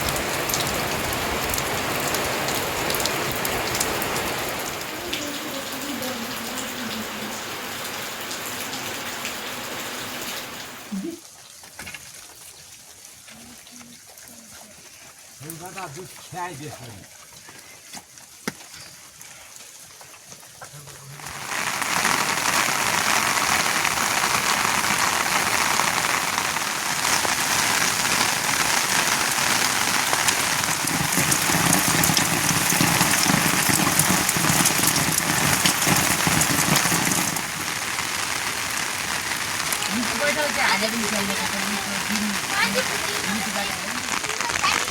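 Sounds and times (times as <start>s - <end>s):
heavy rain falling: 0.0s - 12.5s, 13.2s - 17.1s, 20.3s - 44.9s.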